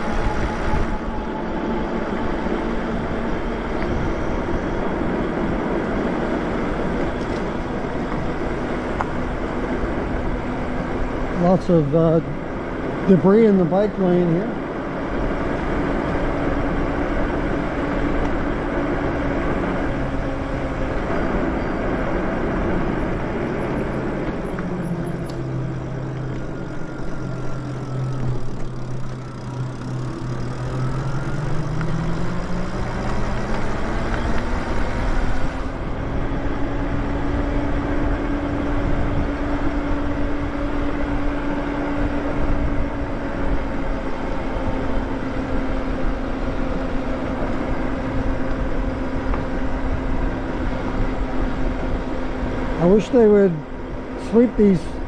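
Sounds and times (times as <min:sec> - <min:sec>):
e-bike drive whine: 0:00.0 - 0:55.0
wind and road rush: 0:00.0 - 0:55.0.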